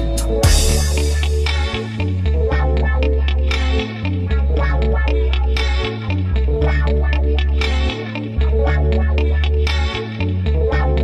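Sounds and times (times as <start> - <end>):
instrumental hip-hop music: 0.0 - 11.0.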